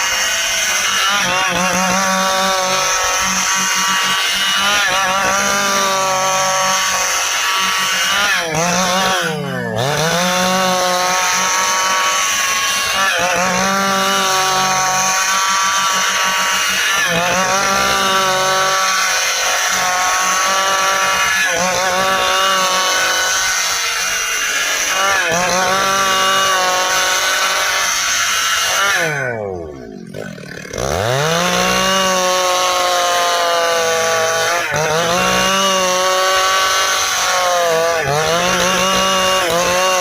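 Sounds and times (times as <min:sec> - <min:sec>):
chainsaw sawing through wood: 0:00.0 - 0:40.0.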